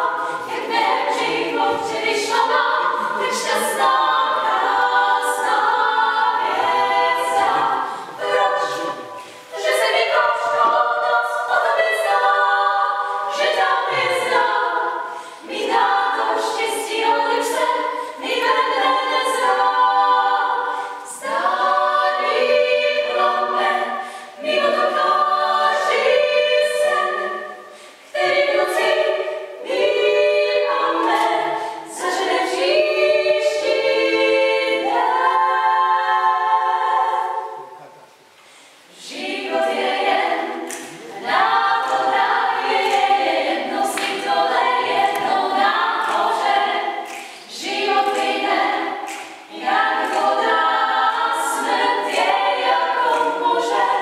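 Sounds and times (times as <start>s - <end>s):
women singing a cappella: 0.0s - 37.9s, 38.5s - 54.0s.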